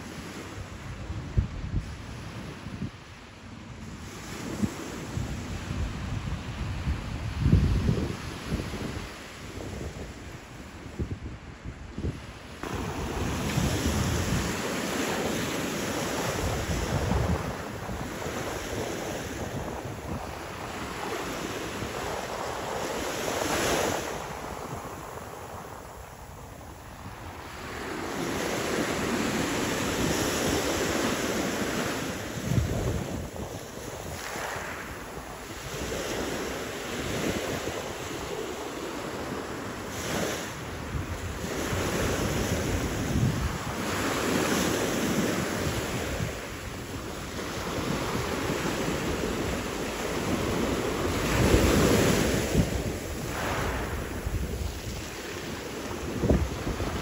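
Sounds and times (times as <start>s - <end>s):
small waves breaking on shore: 0.0s - 57.0s
wind rumbling on microphone: 0.0s - 57.0s.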